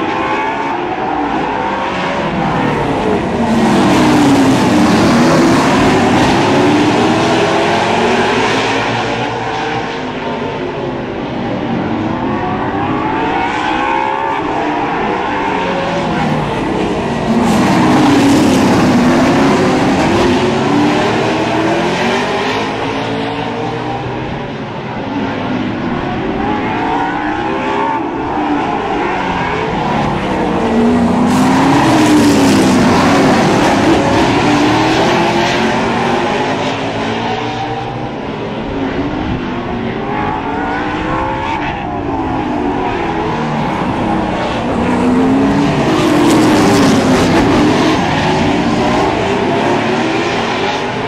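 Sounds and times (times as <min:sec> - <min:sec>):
race car engines passing: 0:00.0 - 0:51.0.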